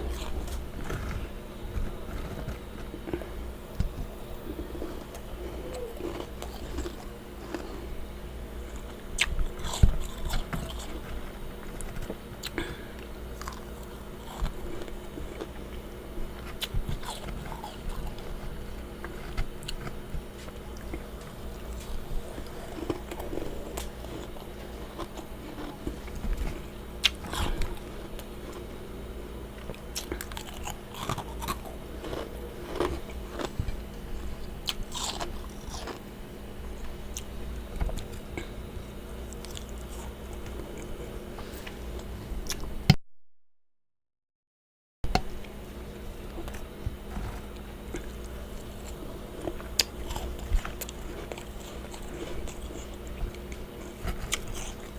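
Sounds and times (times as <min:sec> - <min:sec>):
person chewing crunchy frost: 0:00.0 - 0:42.8, 0:45.1 - 0:54.9
steady low hum: 0:00.0 - 0:43.0, 0:45.0 - 0:54.9.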